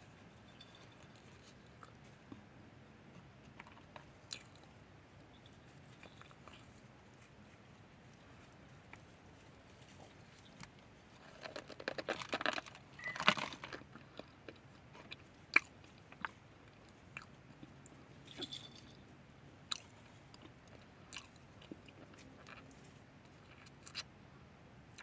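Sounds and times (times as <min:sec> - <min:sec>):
chewing with crisp crackles: 0:00.0 - 0:24.3.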